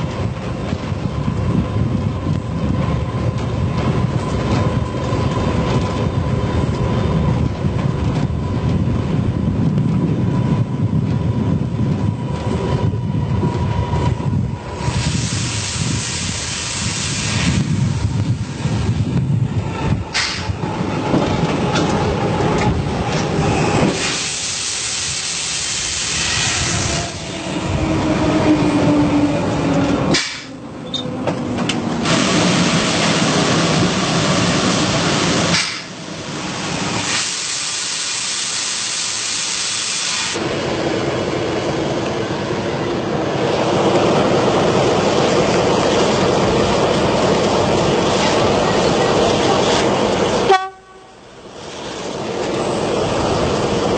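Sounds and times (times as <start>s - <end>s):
train running on rails: 0.0s - 53.9s.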